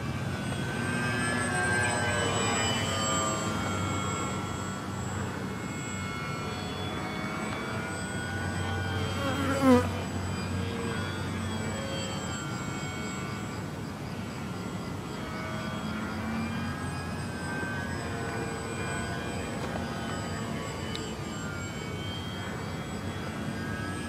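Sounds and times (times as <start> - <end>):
model plane motor buzzing: 0.0 - 24.0.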